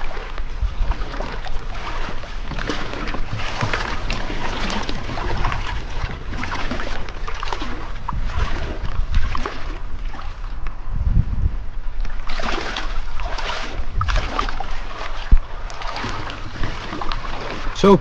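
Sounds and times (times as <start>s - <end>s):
water splashing against boat hull: 0.0s - 18.0s.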